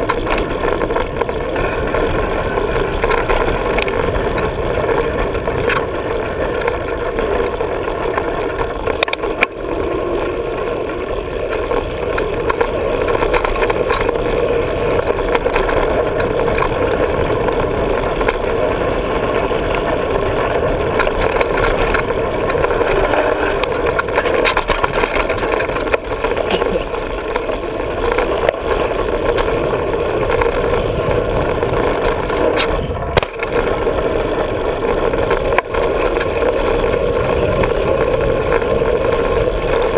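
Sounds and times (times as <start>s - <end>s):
bike knocking and rattling: 0.0s - 39.9s
wind and tyre noise: 0.0s - 39.9s.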